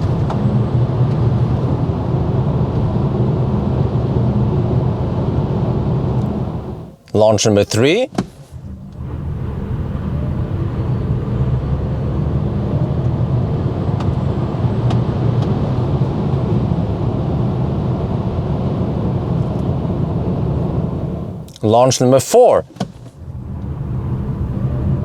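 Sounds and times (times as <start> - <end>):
road and tyre rumble: 0.0 - 25.0.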